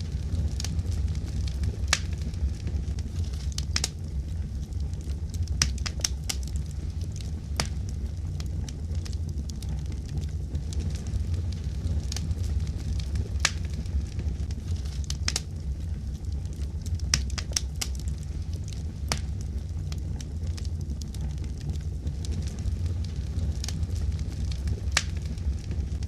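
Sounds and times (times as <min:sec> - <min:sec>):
fireplace fire crackling: 0:00.0 - 0:26.0
low rumble: 0:00.0 - 0:26.0.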